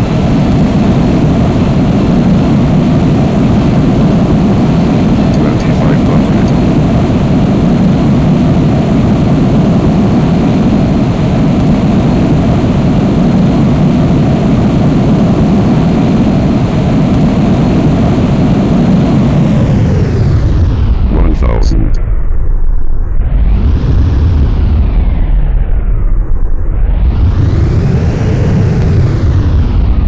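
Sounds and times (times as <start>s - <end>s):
jet aircraft roar: 0.0s - 30.0s.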